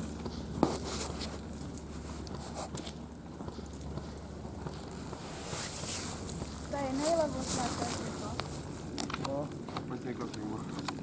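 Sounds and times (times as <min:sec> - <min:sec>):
footsteps through undergrowth: 0:00.0 - 0:09.0
steady low rumble: 0:00.0 - 0:11.0.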